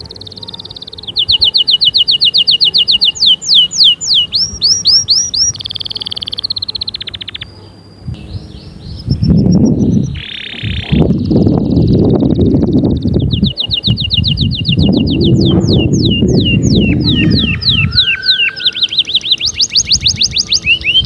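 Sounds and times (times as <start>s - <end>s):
canary singing: 0.0s - 21.0s.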